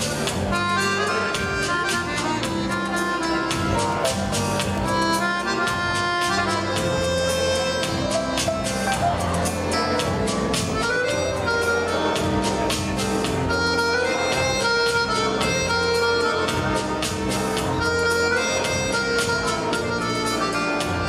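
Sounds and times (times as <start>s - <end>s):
accordion dance music: 0.0s - 21.0s.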